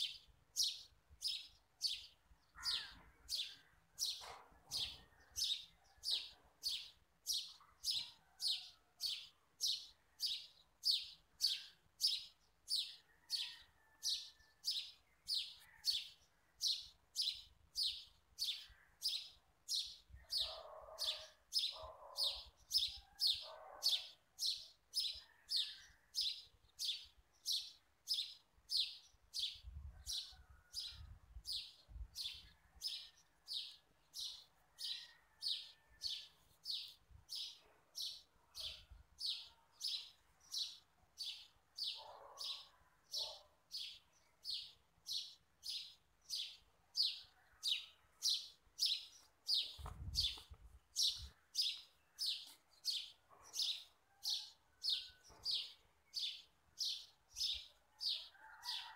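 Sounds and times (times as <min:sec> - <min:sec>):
bird chirping: 0:00.0 - 0:13.6, 0:14.2 - 0:54.0.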